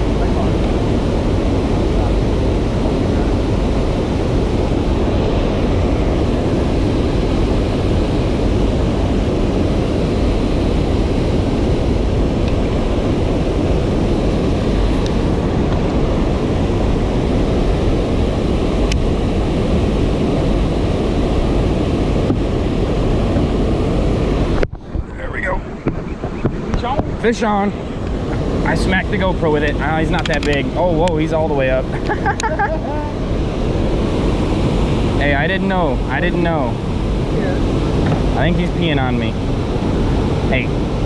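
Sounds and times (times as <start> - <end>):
boat engine running: 0.0 - 41.0
water rushing: 0.0 - 41.0
wind buffeting microphone: 0.0 - 41.0.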